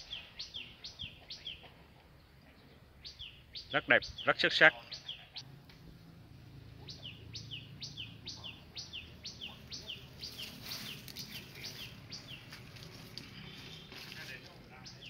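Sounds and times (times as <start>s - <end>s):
bird chirping: 0.0s - 5.5s, 6.7s - 15.0s.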